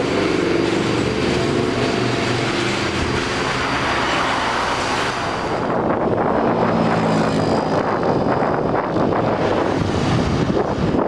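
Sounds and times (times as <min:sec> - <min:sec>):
motor vehicles passing: 0:00.0 - 0:11.0
road traffic noise: 0:00.0 - 0:11.0
wind on microphone: 0:00.0 - 0:11.0.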